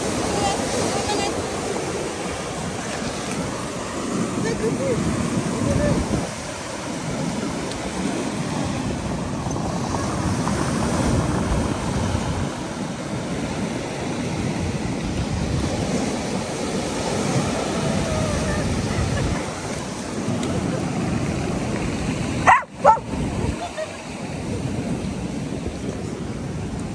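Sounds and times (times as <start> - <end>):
ocean surf breaking: 0.0 - 26.9
wind buffeting microphone: 0.0 - 26.9.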